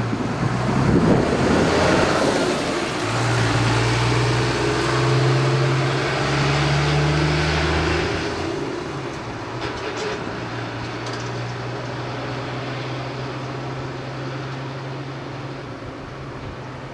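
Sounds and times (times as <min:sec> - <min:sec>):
train wheels rumbling: 0:00.0 - 0:16.9.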